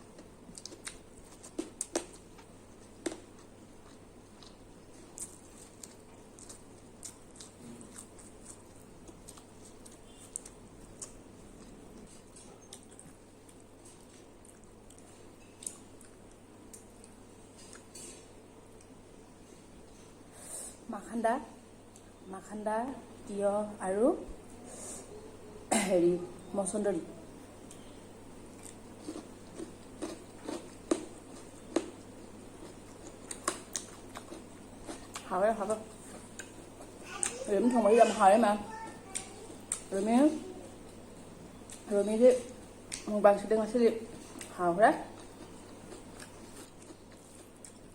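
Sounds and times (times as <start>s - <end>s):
soft chewing: 0.0s - 20.4s, 27.5s - 43.1s, 43.8s - 47.9s
faint low hum: 0.0s - 47.9s.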